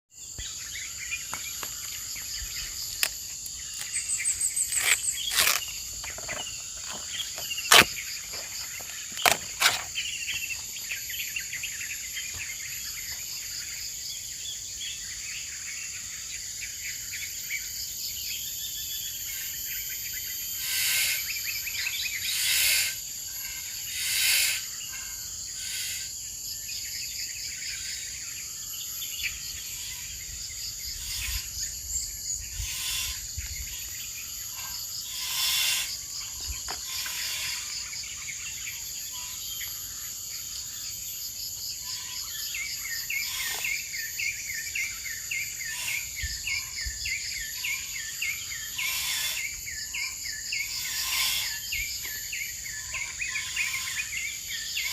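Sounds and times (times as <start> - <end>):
chirps and calls: 0.2 - 54.9
night insects trilling: 0.2 - 54.9.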